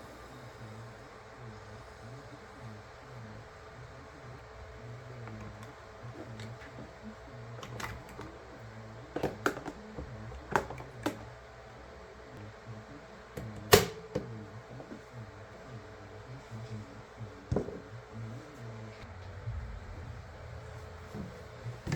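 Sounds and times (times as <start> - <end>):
low steady hum: 0.0 - 21.9.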